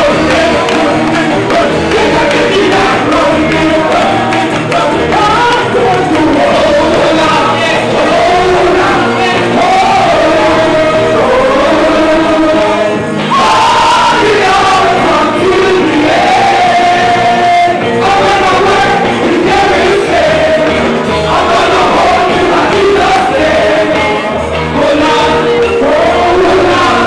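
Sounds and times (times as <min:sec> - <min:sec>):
gospel choir singing: 0:00.0 - 0:27.0
men singing into microphones: 0:00.0 - 0:27.0.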